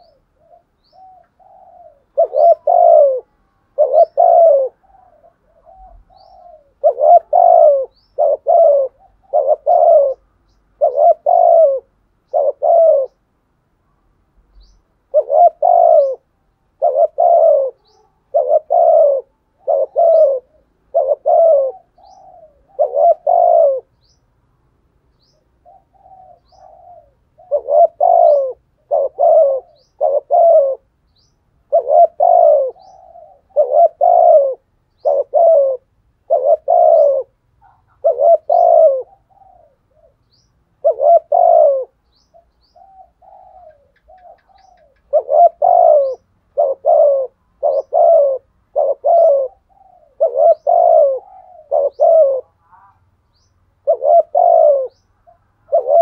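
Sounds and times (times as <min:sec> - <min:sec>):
dove cooing: 0:00.0 - 0:13.2, 0:14.6 - 0:24.2, 0:25.2 - 0:56.0.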